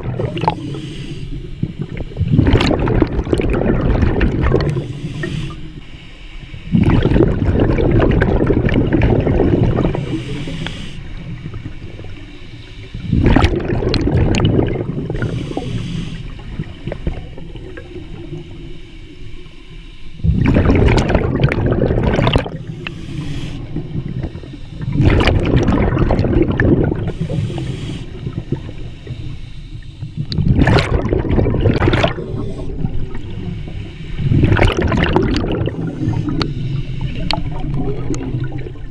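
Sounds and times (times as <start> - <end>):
diver exhaling bubbles underwater: 0.0 - 5.3, 6.7 - 10.6, 12.9 - 18.5, 20.2 - 29.1, 30.2 - 38.9.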